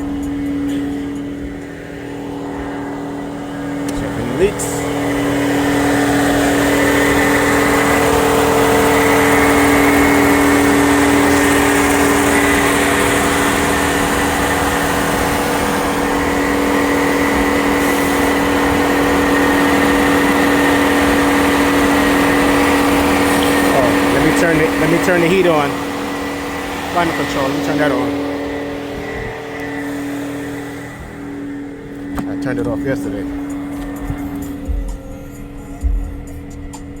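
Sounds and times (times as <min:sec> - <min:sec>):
car engine idling: 0:00.0 - 0:37.0
electric cooling fan whirring: 0:00.0 - 0:37.0.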